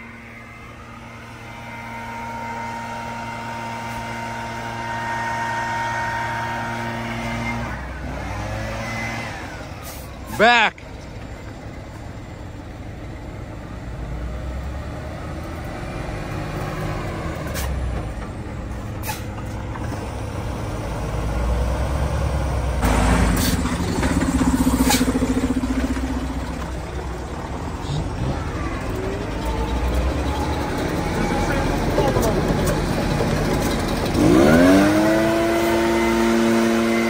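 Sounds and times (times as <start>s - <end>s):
heavy truck engine rumbling: 0.0s - 37.0s.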